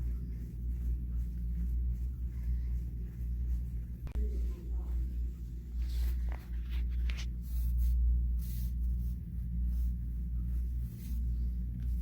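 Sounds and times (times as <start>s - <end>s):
fabric rustling against microphone: 0.0s - 12.0s
steady low rumble: 0.0s - 12.0s.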